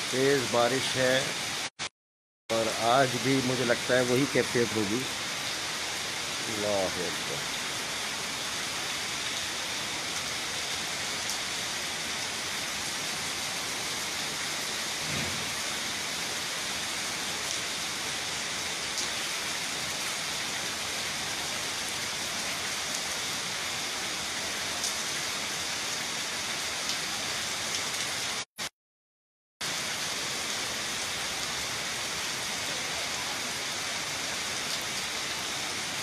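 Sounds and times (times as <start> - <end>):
heavy rain pouring: 0.0 - 1.7, 2.5 - 28.5, 29.6 - 36.0.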